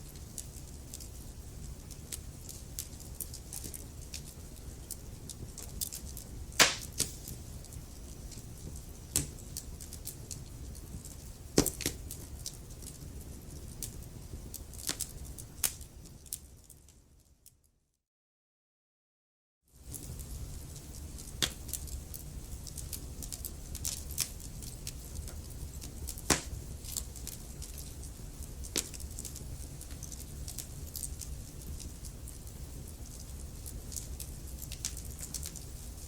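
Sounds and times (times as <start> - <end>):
wood fire crackling: 0.0 - 17.3, 19.8 - 36.0.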